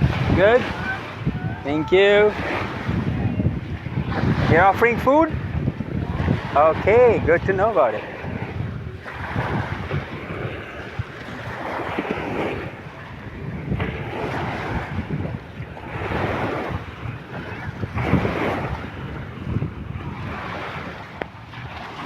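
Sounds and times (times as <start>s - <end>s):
surf washing on beach: 0.0s - 22.0s
wind buffeting microphone: 0.0s - 22.0s.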